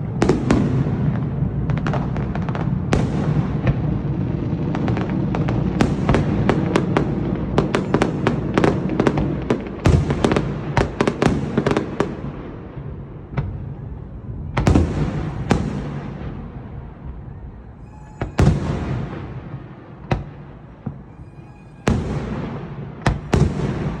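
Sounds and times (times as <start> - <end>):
continuous rumble: 0.0 - 24.0
fireworks bangs: 0.0 - 24.0.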